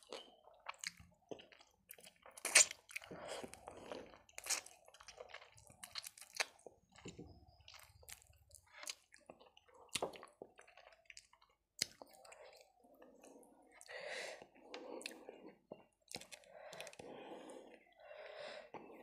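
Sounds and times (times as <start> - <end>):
person chewing with mouth clicks: 0.0 - 17.1.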